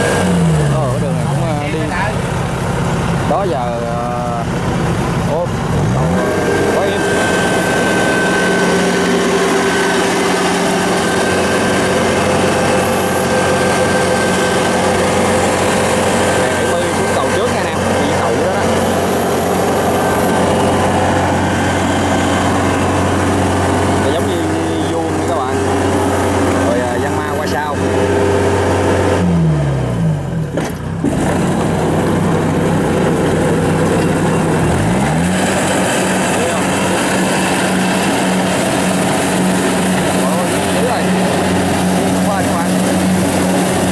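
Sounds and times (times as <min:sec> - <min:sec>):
combine harvester drone: 0:00.0 - 0:43.9
high mechanical whine: 0:00.0 - 0:43.9.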